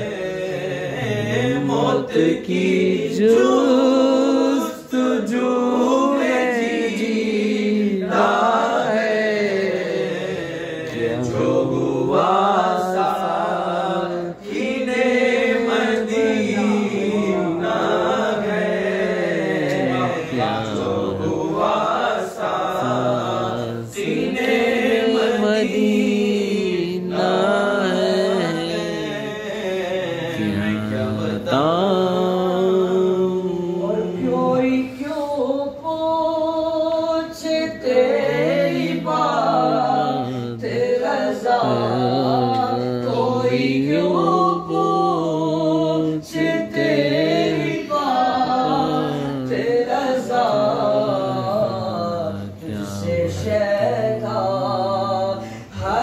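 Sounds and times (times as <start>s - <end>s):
men singing unaccompanied: 0.0s - 56.0s.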